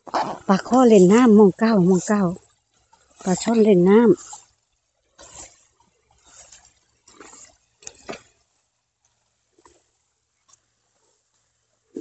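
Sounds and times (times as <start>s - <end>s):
footsteps brushing through wet grass: 0.0s - 11.4s.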